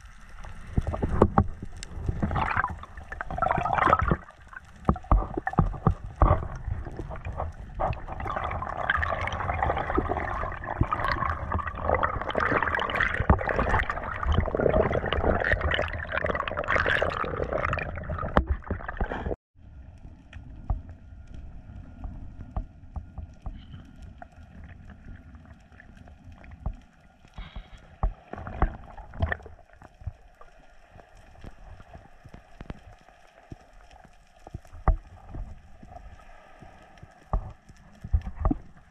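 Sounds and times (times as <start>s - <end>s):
muffled underwater rushing water: 0.0s - 38.9s
underwater clicks and gurgles: 0.0s - 38.9s.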